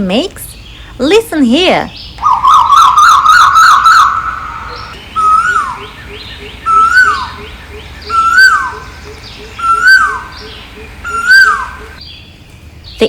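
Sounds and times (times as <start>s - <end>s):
bird calling with rising notes: 1.9s - 13.0s.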